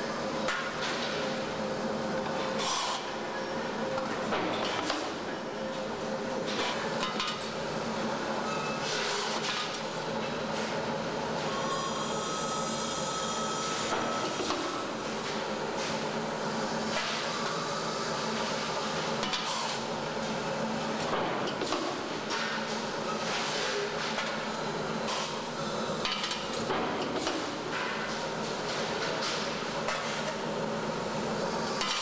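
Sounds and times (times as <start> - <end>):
machinery humming: 0.0 - 31.9.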